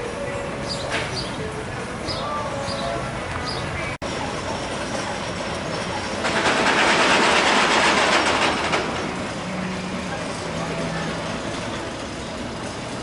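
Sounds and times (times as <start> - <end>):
roller coaster clattering on track: 2.2 - 13.0.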